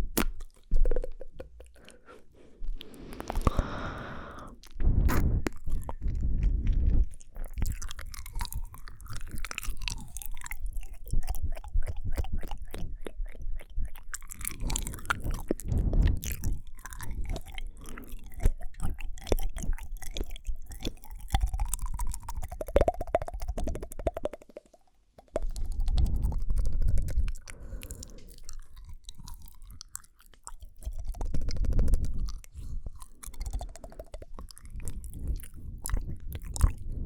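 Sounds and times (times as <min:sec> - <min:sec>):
wet mouth clicks and smacks: 0:00.0 - 0:37.0.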